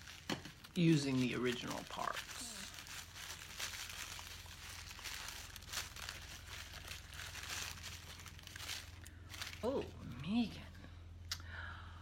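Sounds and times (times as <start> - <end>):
packaging crinkling: 0.0 - 10.0
steady low hum: 0.0 - 12.0.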